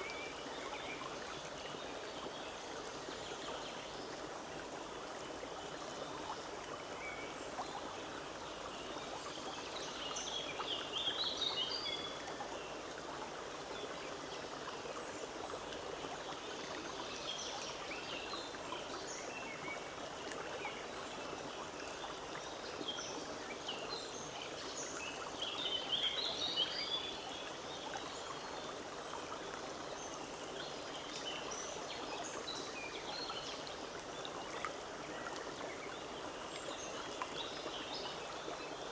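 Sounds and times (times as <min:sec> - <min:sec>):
forest stream running: 0:00.0 - 0:38.9.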